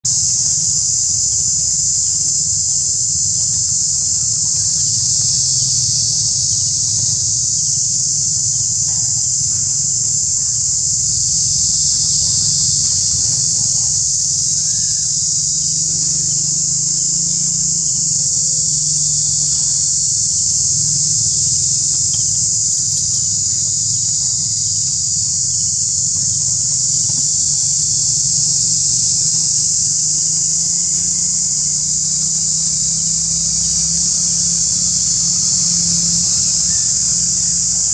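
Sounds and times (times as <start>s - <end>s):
shrill insect chorus: 0.0s - 37.9s.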